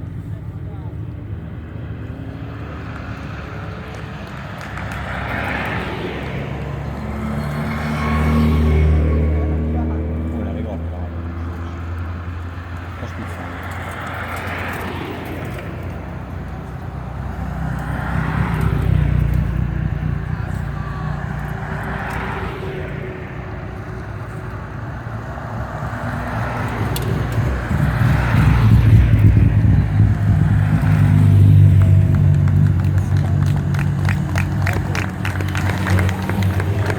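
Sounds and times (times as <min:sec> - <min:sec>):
race cars passing at low revs: 0:00.0 - 0:36.9.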